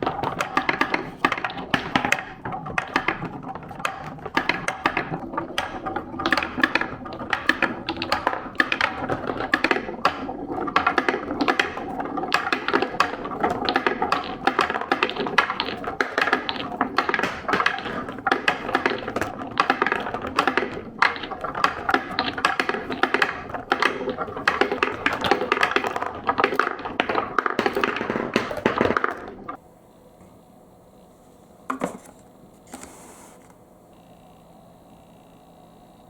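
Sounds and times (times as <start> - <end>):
marbles clattering down a track: 0.0 - 29.6.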